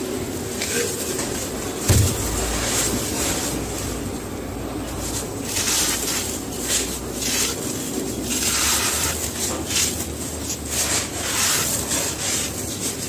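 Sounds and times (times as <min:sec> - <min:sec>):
dry cement crumbling: 0:00.8 - 0:13.0.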